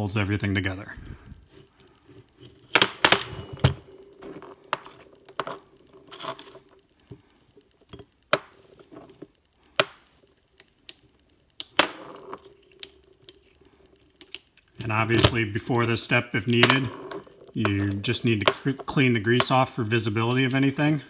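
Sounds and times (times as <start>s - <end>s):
steel joint parts clicking and clunking: 1.4s - 21.0s.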